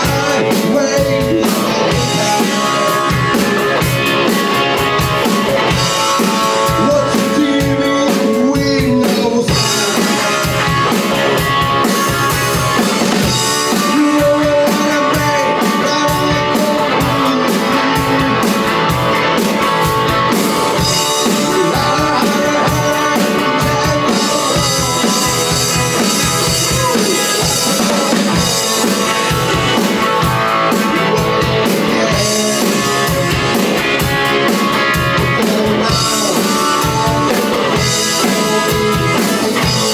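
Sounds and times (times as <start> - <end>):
distorted electric guitar: 0.0 - 39.9
drum kit rock beat: 0.0 - 39.9.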